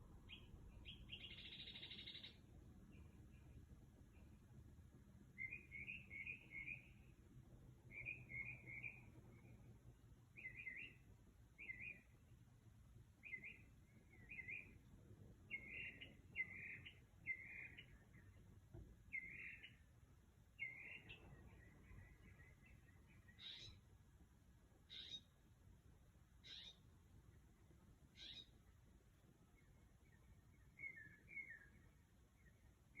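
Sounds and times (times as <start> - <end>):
faint bird chirping: 0.0 - 33.0.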